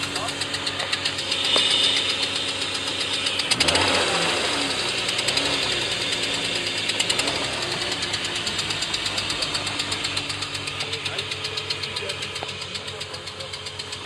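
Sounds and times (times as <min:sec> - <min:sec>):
engine running with ticking knock: 0:00.0 - 0:14.0.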